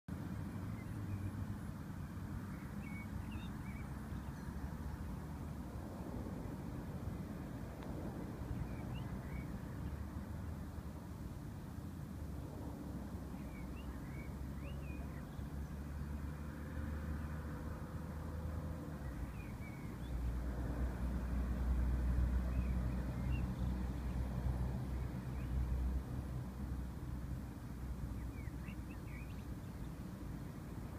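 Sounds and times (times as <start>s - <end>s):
distant traffic rumble: 0.1s - 30.9s.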